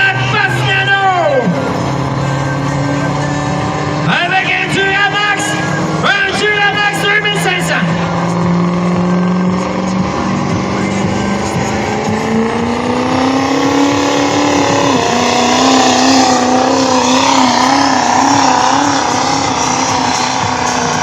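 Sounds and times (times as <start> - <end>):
vehicle engine running under load: 0.0 - 21.0.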